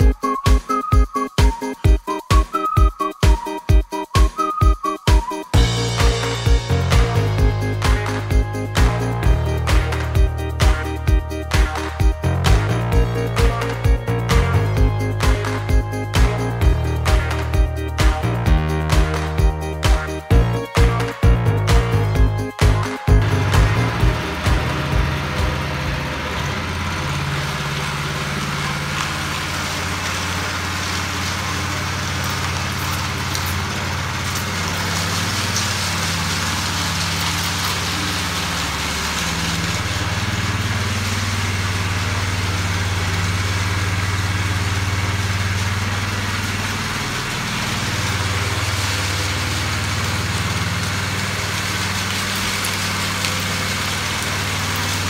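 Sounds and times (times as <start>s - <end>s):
small gas engine running: 5.5s - 55.0s.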